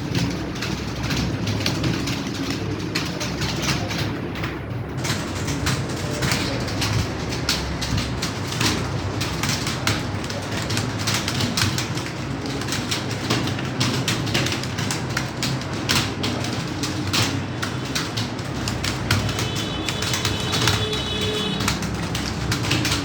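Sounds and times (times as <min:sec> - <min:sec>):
computer keyboards clattering: 0:00.0 - 0:23.0.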